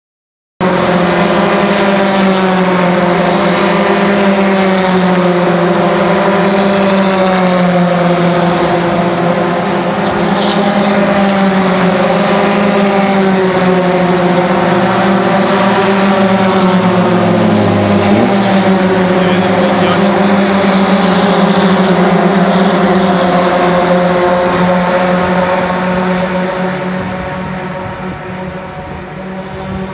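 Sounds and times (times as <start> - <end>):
deeper car engine: 0.6 - 29.9
racing engine drone: 0.6 - 29.9.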